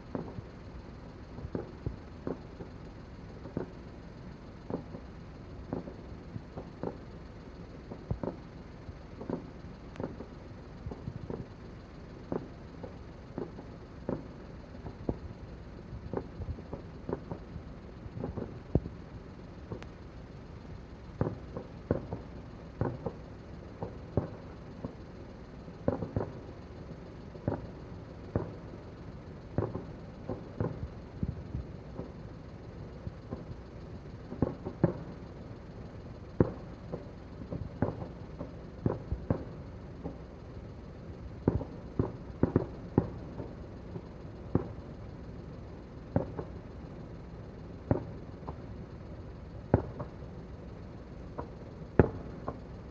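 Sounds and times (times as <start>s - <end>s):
low background rumble: 0.0s - 52.9s.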